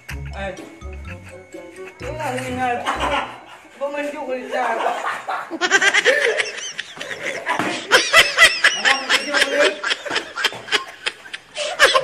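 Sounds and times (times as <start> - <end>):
people giggling: 0.0 - 12.0.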